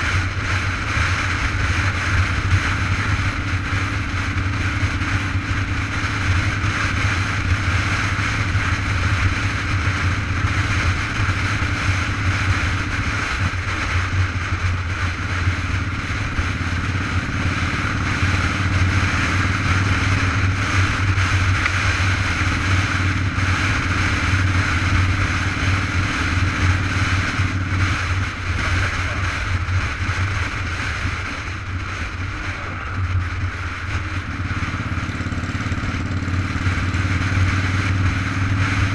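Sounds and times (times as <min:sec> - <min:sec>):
low rumble: 0:00.0 - 0:38.9
road noise: 0:00.0 - 0:38.9
wind rush: 0:00.0 - 0:38.9.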